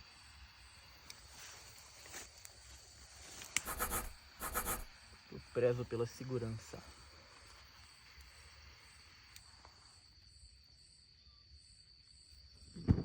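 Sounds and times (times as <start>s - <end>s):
crickets trilling: 0.0s - 12.7s.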